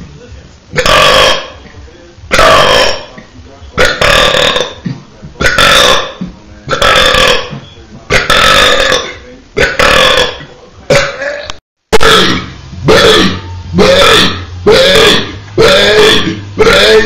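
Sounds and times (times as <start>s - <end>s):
loud burps: 0.7s - 1.6s, 2.3s - 3.2s, 3.8s - 17.0s.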